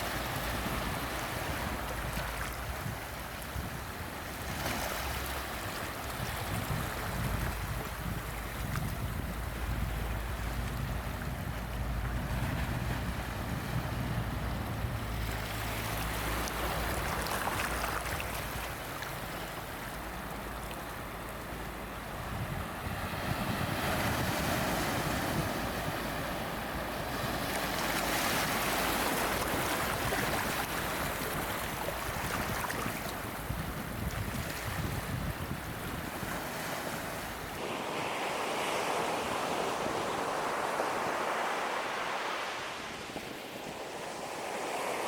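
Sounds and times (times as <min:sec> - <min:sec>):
ocean waves breaking on beach: 0:00.0 - 0:45.0.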